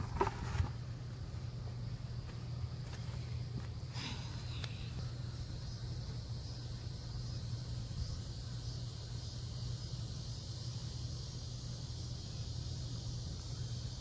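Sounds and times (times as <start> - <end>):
insects chorus: 0.0 - 14.0
low steady hum: 0.0 - 14.0.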